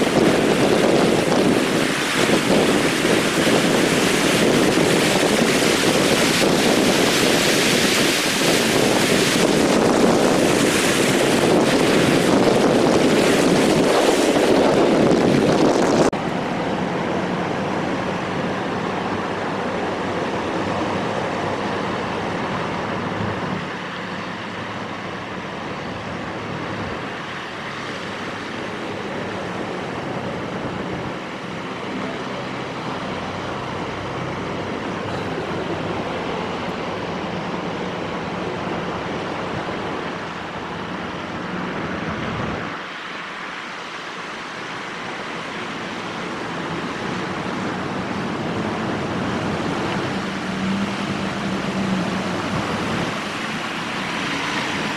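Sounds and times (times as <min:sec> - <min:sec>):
car driving through floodwater: 0:00.0 - 0:54.9
cars splashing in distance: 0:00.0 - 0:54.9.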